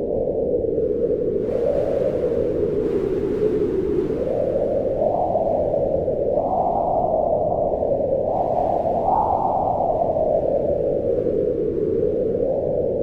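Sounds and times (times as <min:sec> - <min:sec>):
wind howling: 0:00.0 - 0:13.0.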